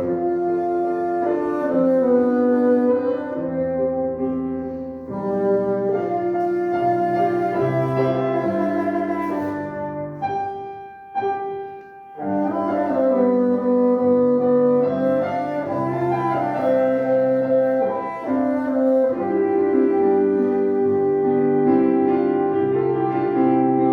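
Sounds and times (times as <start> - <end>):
bassoon melody: 0.0 - 23.9
piano accompaniment: 0.0 - 23.9.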